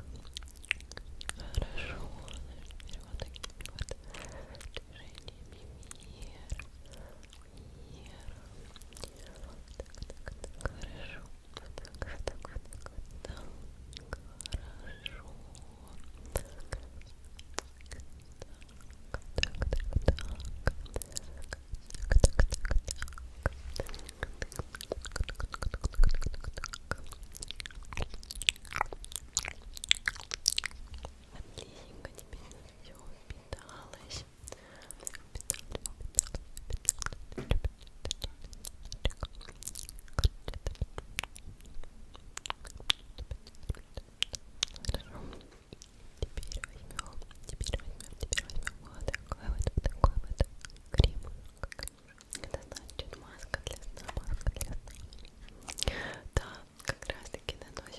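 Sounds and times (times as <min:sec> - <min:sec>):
wet mouth clicks and lip smacks: 0:00.1 - 0:57.9.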